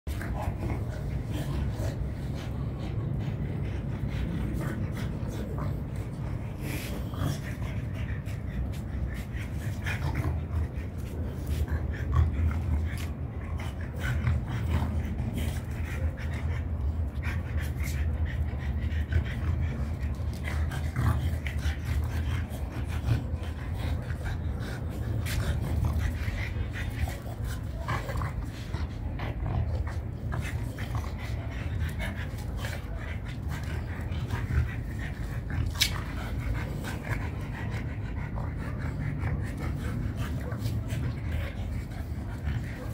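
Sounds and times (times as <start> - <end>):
dogs play-fighting: 0.1 - 42.9
steady low hum: 0.1 - 42.9.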